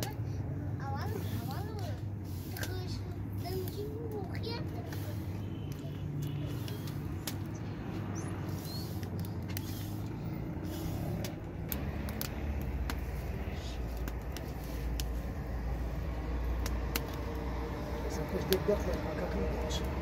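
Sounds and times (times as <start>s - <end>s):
wood fire crackling: 0.0s - 20.0s
sharp pops: 1.6s - 19.0s.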